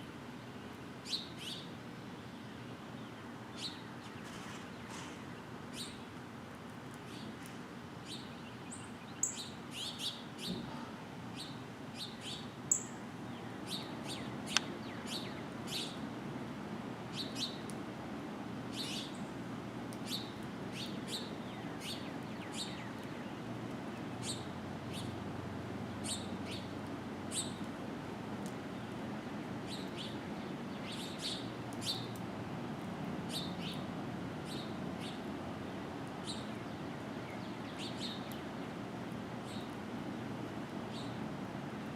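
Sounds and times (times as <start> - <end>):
songbirds chirping: 0.4 - 6.2, 6.9 - 16.2, 17.1 - 17.8, 18.6 - 27.8, 28.4 - 32.6, 33.3 - 41.2.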